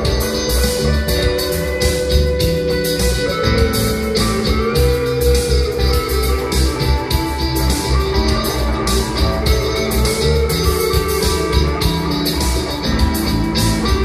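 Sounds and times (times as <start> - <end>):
bass: 0.0 - 14.0
drum beat: 0.0 - 14.0
electric guitar single-note lines: 0.0 - 14.0.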